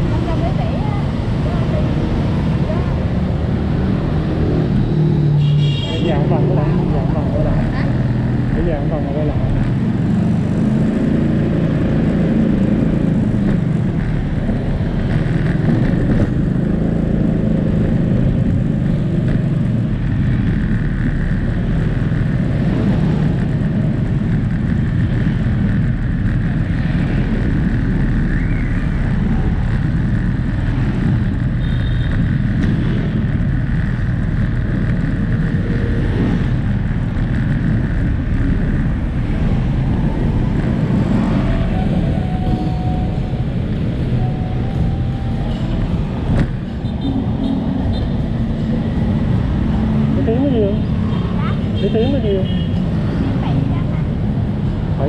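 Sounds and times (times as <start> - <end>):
motorbike engine and road noise: 0.0 - 55.0.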